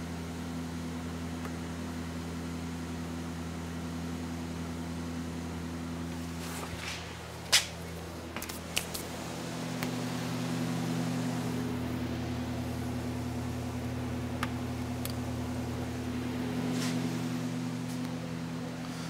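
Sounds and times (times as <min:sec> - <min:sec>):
heater blower fan humming: 0:00.0 - 0:19.0.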